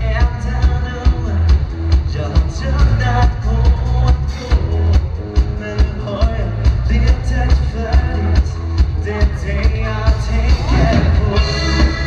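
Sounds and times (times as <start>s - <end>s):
heavy bass: 0.0s - 12.0s
live pop dance band playing: 0.0s - 12.0s
steady drum beat: 0.0s - 12.0s.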